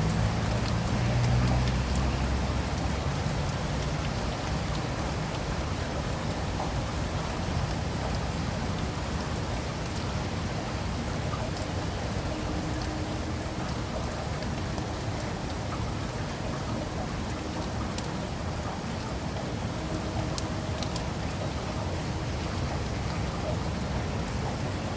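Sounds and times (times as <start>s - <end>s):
rain falling on leaves and pavement: 0.0s - 24.9s
raindrops ticking: 0.0s - 24.9s.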